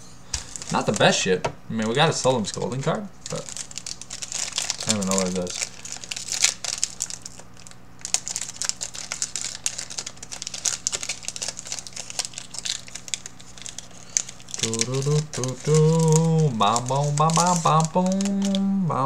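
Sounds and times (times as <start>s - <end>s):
foil wrapper crinkling: 0.3s - 18.7s.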